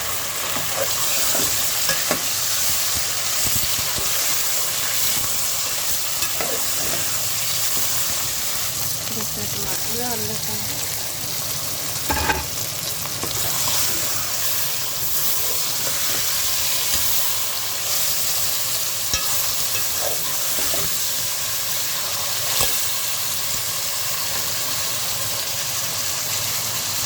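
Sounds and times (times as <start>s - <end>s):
food sizzling in oil: 0.0s - 27.0s.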